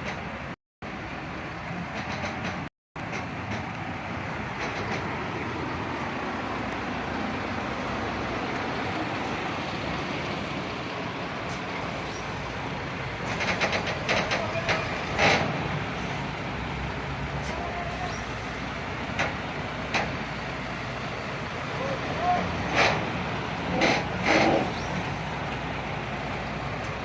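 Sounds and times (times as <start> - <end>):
heavy truck engine and road rumble: 0.0 - 27.0.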